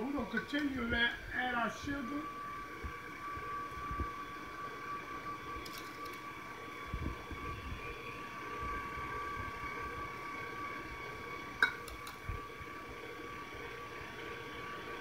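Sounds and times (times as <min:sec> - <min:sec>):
stand mixer motor whine: 0:00.0 - 0:15.0.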